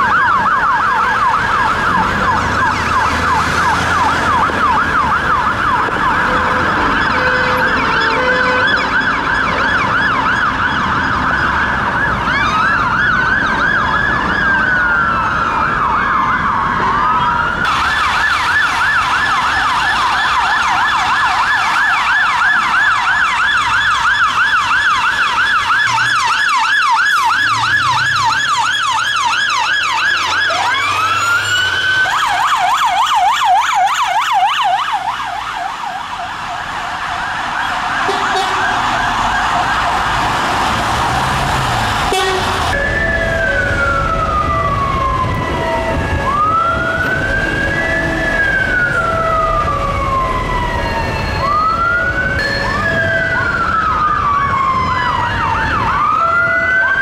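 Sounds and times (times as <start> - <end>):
siren wailing: 0.0 - 57.0
siren yelping: 0.0 - 57.0.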